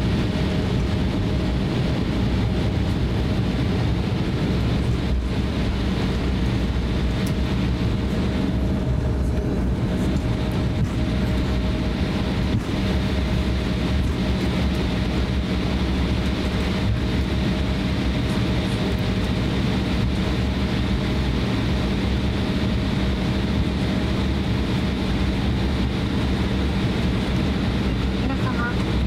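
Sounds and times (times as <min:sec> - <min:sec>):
constant low hum: 0:00.0 - 0:29.0
jet engines idling: 0:00.0 - 0:29.0.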